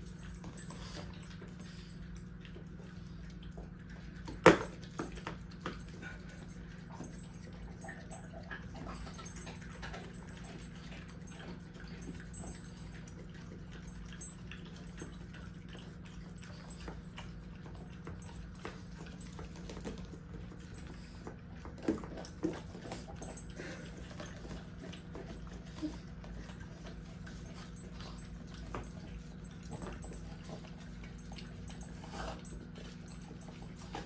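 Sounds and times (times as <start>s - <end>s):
dog licking and lapping: 0.0s - 34.0s.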